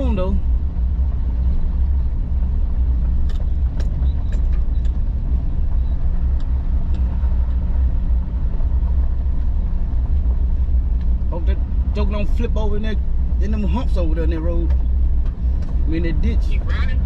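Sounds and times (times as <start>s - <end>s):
truck rumbling: 0.0s - 17.0s.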